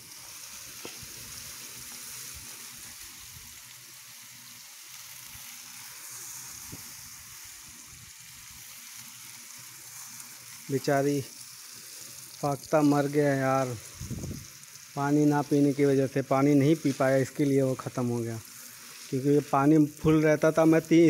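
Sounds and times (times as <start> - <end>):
garden hose spraying water: 0.0 - 21.0.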